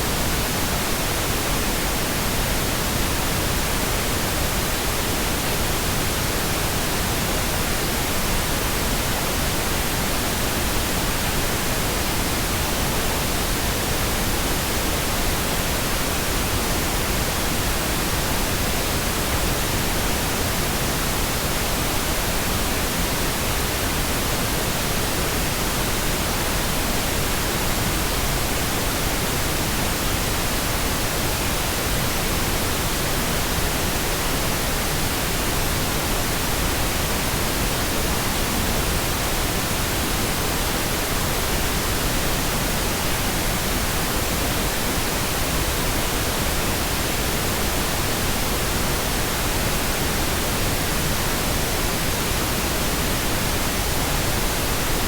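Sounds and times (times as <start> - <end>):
steady pink noise hiss: 0.0 - 55.0.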